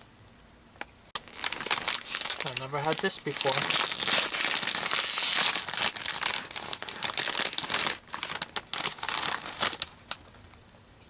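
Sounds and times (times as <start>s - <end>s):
snack packaging crackling: 0.8s - 10.7s.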